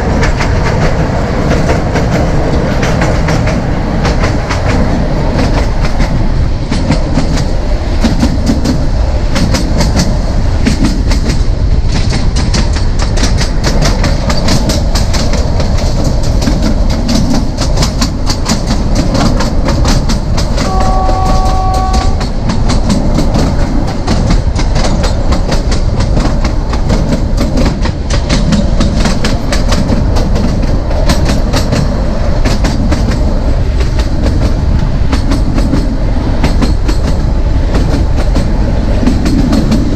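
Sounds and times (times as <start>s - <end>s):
train rumble: 0.0s - 39.9s
train wheels clicking over rail joints: 0.0s - 39.9s.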